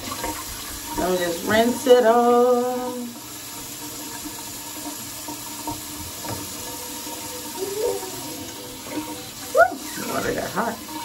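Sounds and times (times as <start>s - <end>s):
water running from sink tap: 0.0s - 11.0s.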